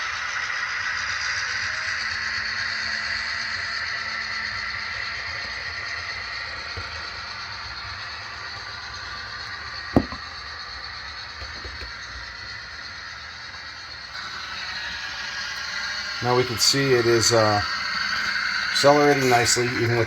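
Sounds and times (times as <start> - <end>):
model train diesel rumble: 0.0 - 20.0.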